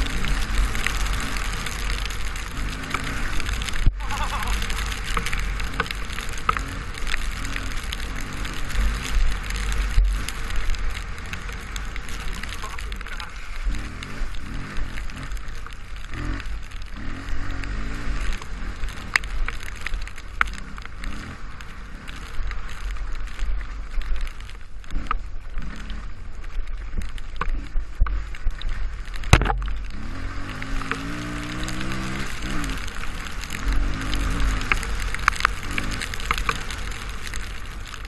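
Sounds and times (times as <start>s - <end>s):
dirt bike engine: 0.0s - 38.0s.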